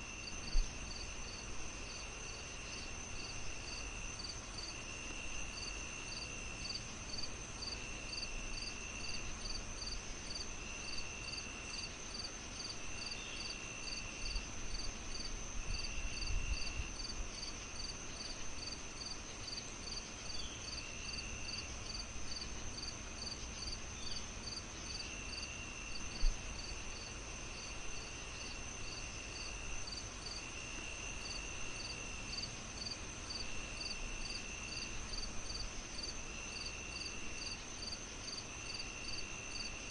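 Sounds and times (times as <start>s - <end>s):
constant high insect tone: 0.0s - 39.9s
crickets chirping: 0.0s - 39.9s
insect trill: 0.0s - 39.9s.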